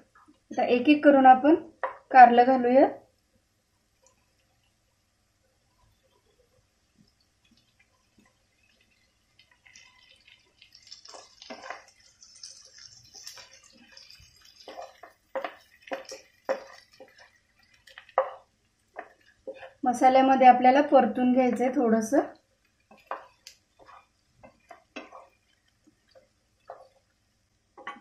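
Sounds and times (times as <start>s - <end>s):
food sizzling in hot oil: 3.8s - 28.0s.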